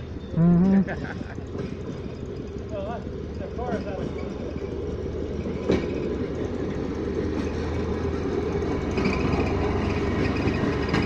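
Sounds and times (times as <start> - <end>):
rail motor car engine humming: 0.0 - 11.0.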